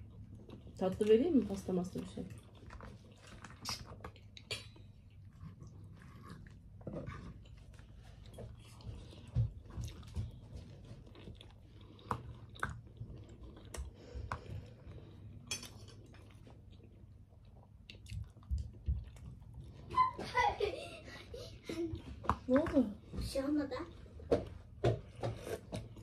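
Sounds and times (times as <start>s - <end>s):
person chewing food: 0.0s - 19.9s, 24.0s - 26.0s.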